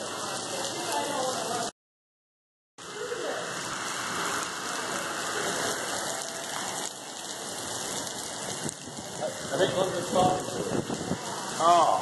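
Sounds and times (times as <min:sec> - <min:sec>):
heavy rain pouring: 0:00.0 - 0:01.7, 0:02.8 - 0:12.0.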